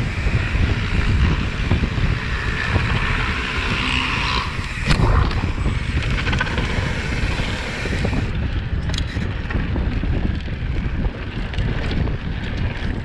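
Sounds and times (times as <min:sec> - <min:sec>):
bike rattling on bumps: 0:00.0 - 0:13.0
bike tyre noise on dirt: 0:00.0 - 0:13.0
wind buffeting microphone: 0:00.0 - 0:13.0.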